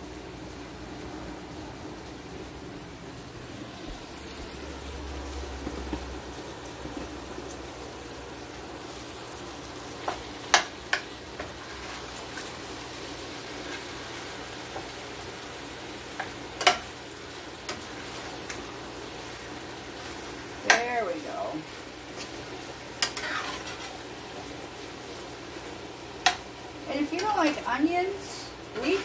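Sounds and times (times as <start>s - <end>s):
pan sizzling: 0.0s - 29.0s.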